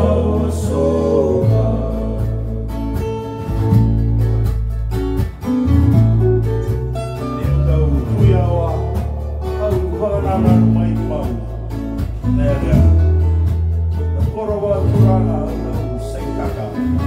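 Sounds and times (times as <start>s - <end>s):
acoustic guitar strumming: 0.0s - 17.0s
deep bass notes: 0.0s - 17.0s.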